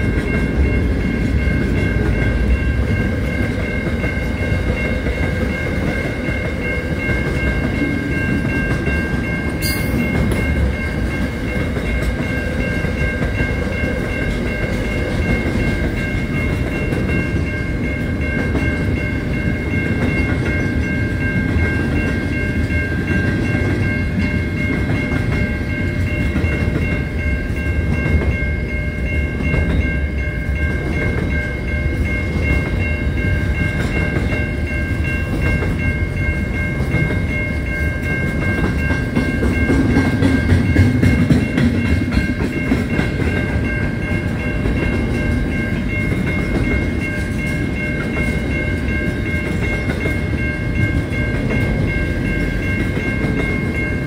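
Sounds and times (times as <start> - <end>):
crossing warning bell ringing: 0.0 - 54.0
train wagons rumbling and clacking: 0.0 - 54.0.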